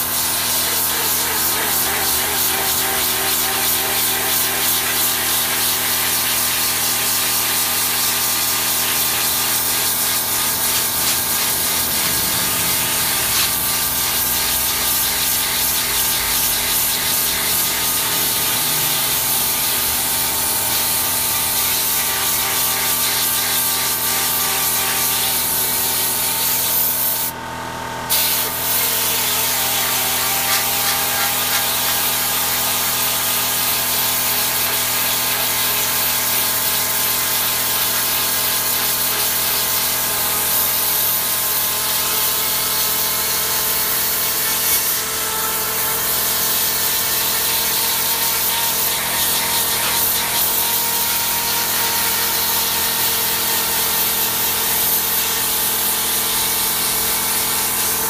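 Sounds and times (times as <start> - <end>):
water jet spraying metal fins: 0.0 - 27.3, 28.1 - 58.0.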